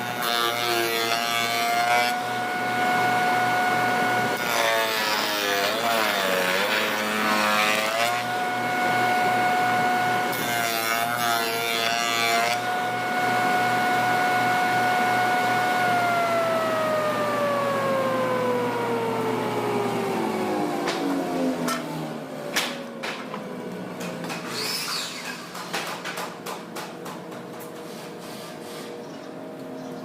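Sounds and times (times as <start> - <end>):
power saw whine: 0.0 - 25.8.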